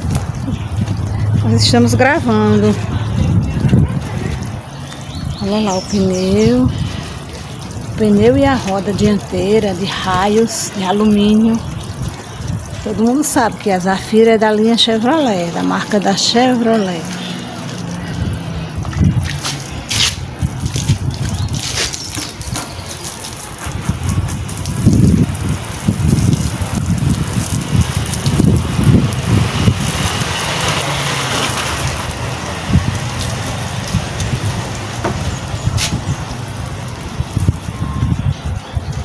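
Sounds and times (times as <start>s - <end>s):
hose water splattering: 0.0s - 39.0s.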